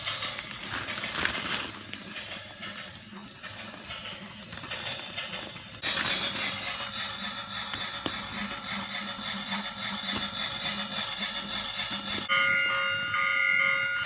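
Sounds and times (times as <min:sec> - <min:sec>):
toy train whirring and rattling: 0:00.0 - 0:14.0.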